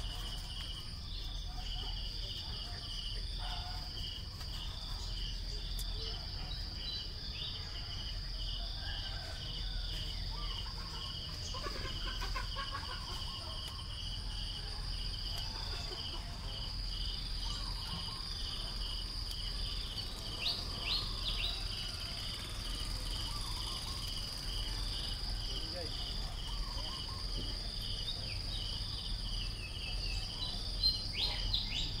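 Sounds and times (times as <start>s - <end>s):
insects whining and chirping: 0.0s - 32.0s.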